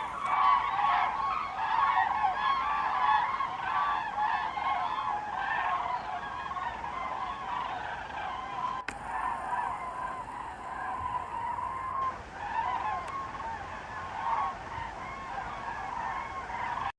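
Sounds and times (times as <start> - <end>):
geese honking in flight: 0.0 - 16.9.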